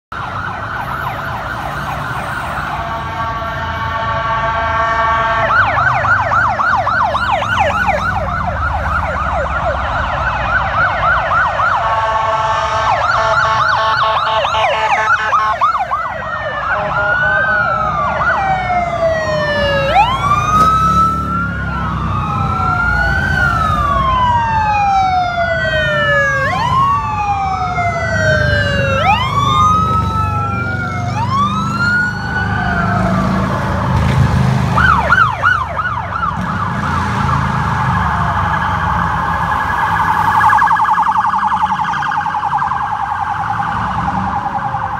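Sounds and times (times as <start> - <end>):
police sirens: 0.1 - 44.9
vehicle engines rumbling: 0.1 - 44.9.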